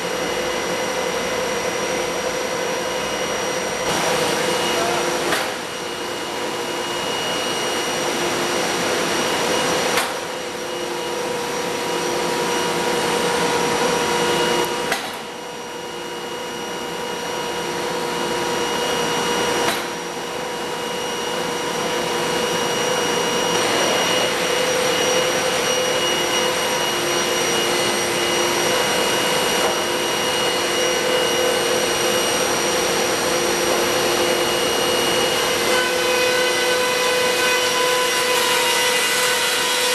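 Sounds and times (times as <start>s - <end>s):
cutter heads whining: 0.0s - 39.9s.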